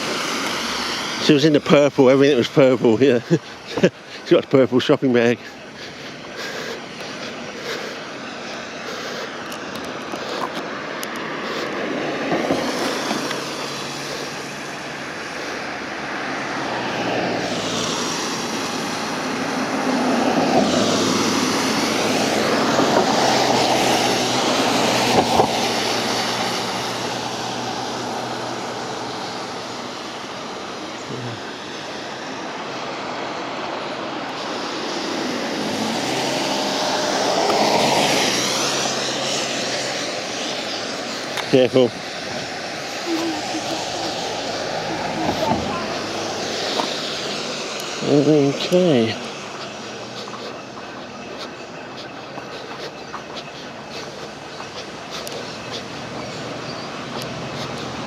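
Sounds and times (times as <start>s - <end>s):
aircraft flying over: 0.0s - 30.5s, 31.4s - 58.0s.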